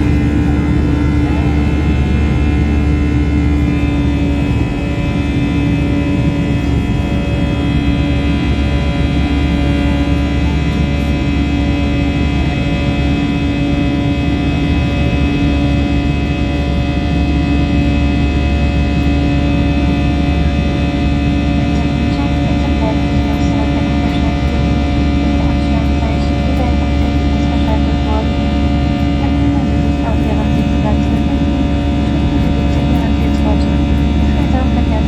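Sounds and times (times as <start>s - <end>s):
constant tones: 0.0s - 35.0s
jet engines and airflow drone: 0.0s - 35.0s.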